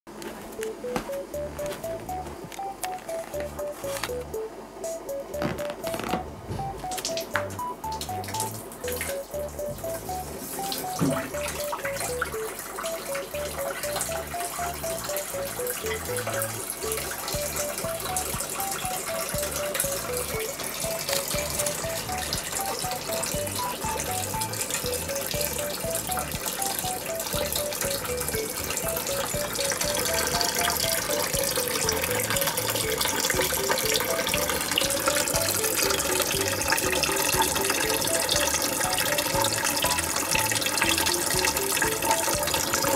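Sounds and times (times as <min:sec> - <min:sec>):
light background music: 0:00.1 - 0:42.9
water running from a tap: 0:07.0 - 0:42.9.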